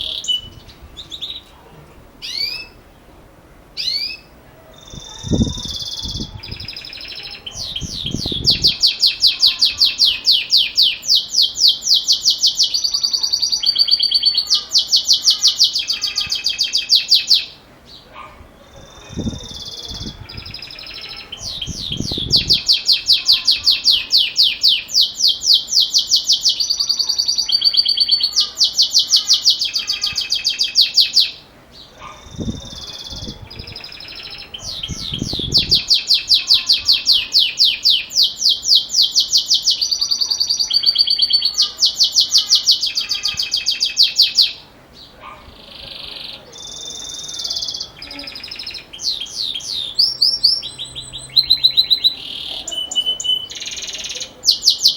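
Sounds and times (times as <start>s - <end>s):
canary singing high trills: 0.0s - 1.6s, 2.2s - 3.1s, 3.8s - 54.9s.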